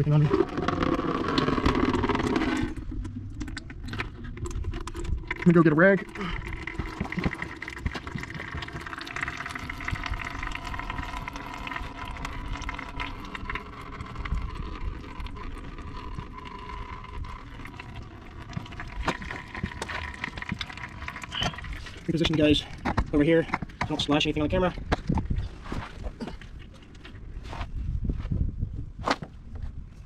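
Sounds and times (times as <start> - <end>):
oil trickling into a bucket: 0.0 - 25.5.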